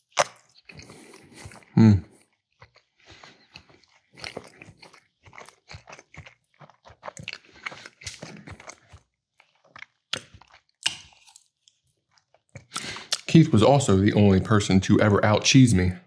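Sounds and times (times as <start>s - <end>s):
person chewing food: 0.0s - 13.4s.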